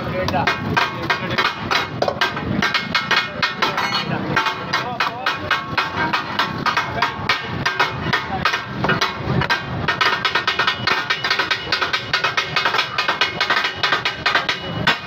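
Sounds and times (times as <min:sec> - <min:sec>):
metal spatulas clattering on iron griddle: 0:00.1 - 0:15.0.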